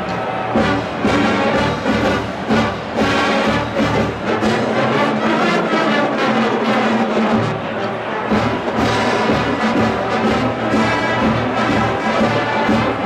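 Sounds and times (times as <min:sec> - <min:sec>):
brass playing a tune: 0:00.5 - 0:13.0.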